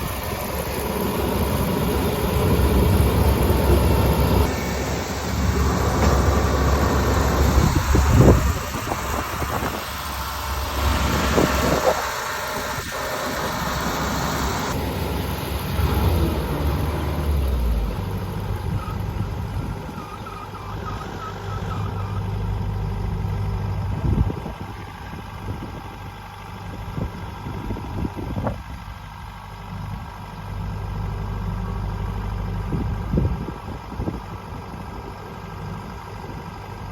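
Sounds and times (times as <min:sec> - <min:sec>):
farm machine engine running: 0:00.0 - 0:36.9.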